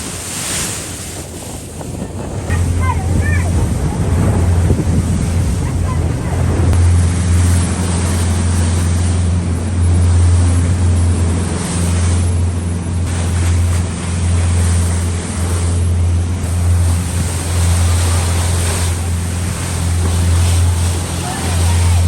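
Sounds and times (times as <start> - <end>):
rushing water from hull: 0.0 - 22.0
wind buffeting microphone: 0.0 - 22.0
low engine drone: 2.2 - 22.0.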